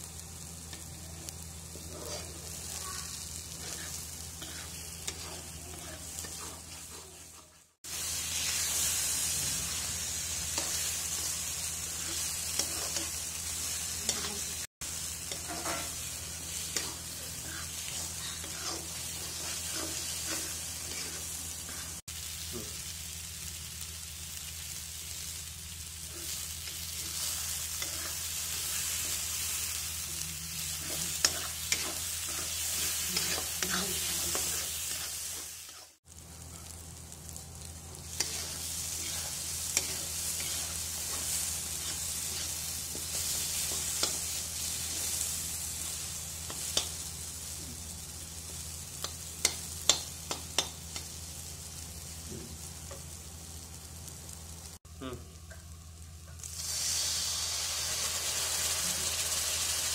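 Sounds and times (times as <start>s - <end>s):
paste sizzling in hot oil: 0.0s - 54.8s, 56.4s - 59.9s.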